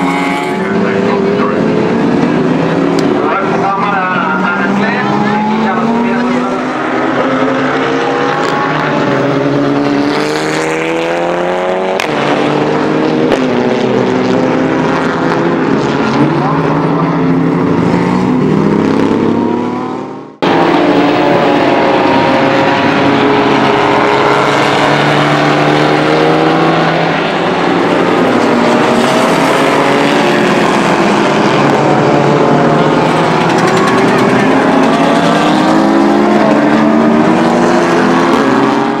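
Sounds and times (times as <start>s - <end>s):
race car engine running hard: 0.0s - 39.0s
race car engines accelerating: 0.0s - 39.0s.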